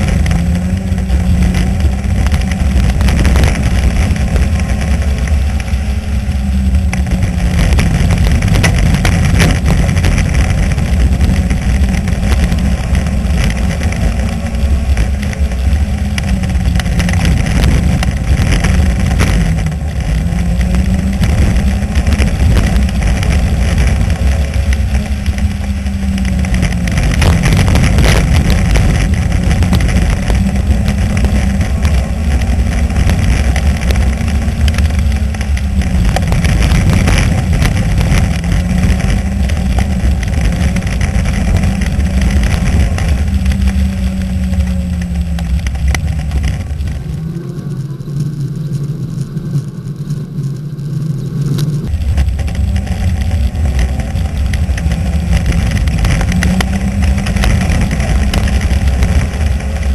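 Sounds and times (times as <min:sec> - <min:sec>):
race car engine revving: 0:00.0 - 0:59.9
wind and tyres on dirt: 0:00.0 - 0:59.9.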